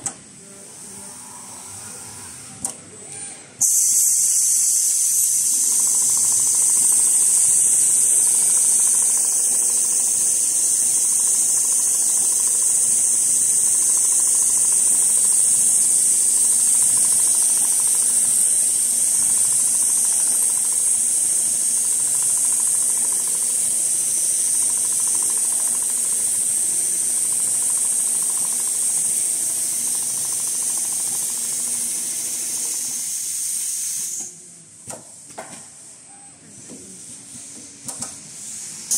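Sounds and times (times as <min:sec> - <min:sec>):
low mechanical hum: 0:00.0 - 0:33.4
sewing machine hiss: 0:03.6 - 0:34.7, 0:37.3 - 0:38.9.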